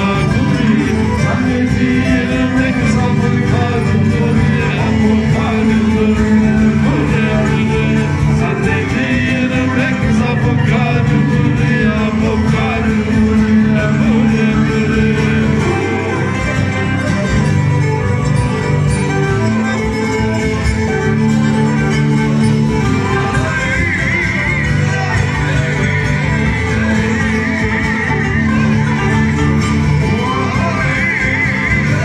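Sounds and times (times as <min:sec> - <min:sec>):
bowed fiddle melody: 0:00.0 - 0:32.0
plucked string instrument: 0:00.0 - 0:32.0
strummed acoustic guitar: 0:00.0 - 0:32.0.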